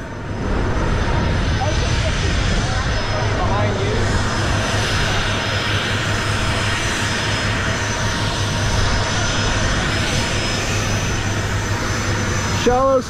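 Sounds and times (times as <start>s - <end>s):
aircraft engine running: 0.0s - 13.0s.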